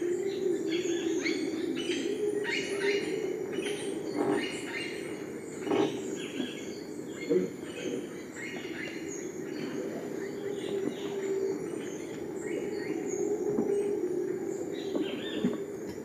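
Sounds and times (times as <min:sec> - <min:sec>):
birds chirping and whistling: 0:00.0 - 0:16.0.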